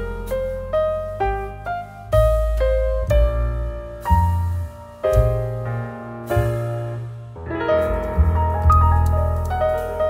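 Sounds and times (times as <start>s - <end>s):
keyboard music with piano chords: 0.0s - 10.0s.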